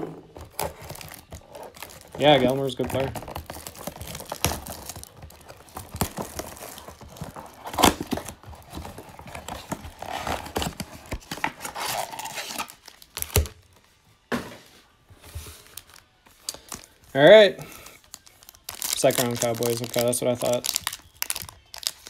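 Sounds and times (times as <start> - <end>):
foil wrappers crinkling and tearing: 0.4 - 13.8, 15.2 - 22.0.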